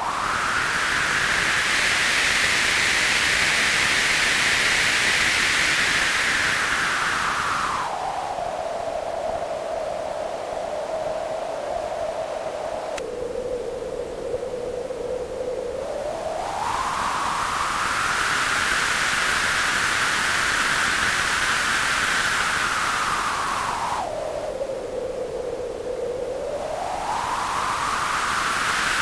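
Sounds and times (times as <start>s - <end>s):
white noise through wah pedal: 0.0s - 29.0s.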